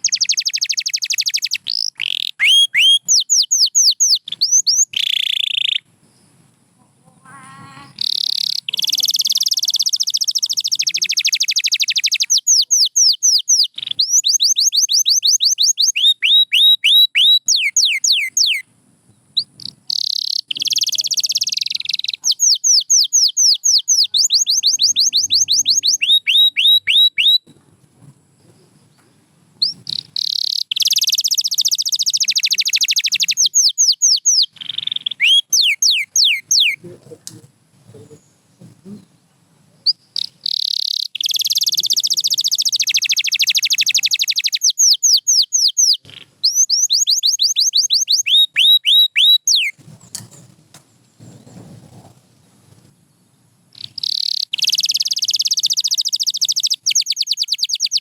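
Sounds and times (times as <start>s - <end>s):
canary singing trills and whistles: 0.0s - 5.9s, 7.3s - 18.7s, 19.3s - 27.5s, 29.6s - 36.8s, 39.8s - 49.9s, 53.7s - 58.0s.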